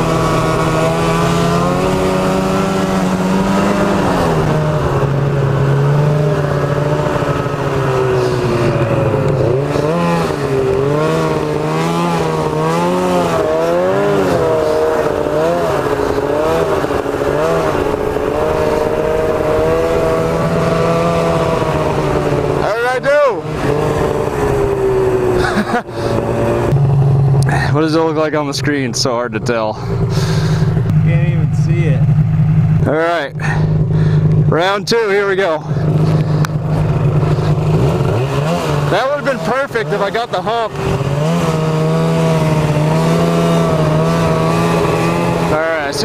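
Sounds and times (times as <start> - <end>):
snowmobile engine: 0.0 - 46.0.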